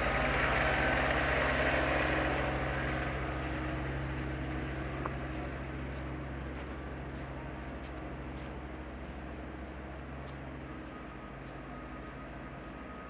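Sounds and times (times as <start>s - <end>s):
large vehicle engine humming: 0.0s - 13.0s
road noise: 0.0s - 13.0s.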